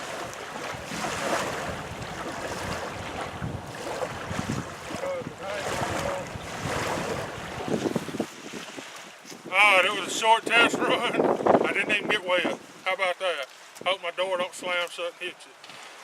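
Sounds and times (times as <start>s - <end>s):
wind gusts on microphone: 0.0s - 14.8s
water washing against shore: 0.0s - 16.0s.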